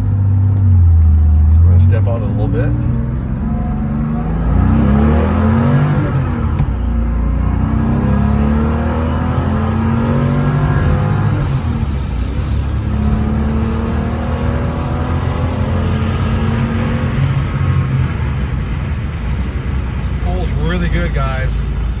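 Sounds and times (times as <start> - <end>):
car engine revving through gears: 0.0 - 22.0.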